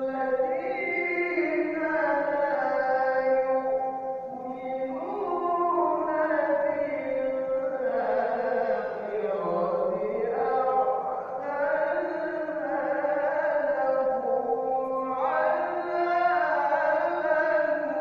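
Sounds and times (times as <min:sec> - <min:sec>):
melodic recitation voice: 0:00.0 - 0:18.0.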